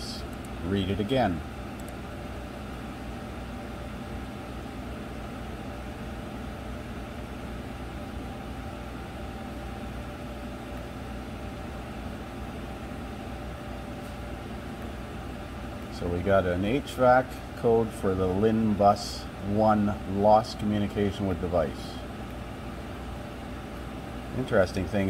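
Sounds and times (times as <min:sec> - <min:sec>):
blower fan humming: 0:00.0 - 0:25.0.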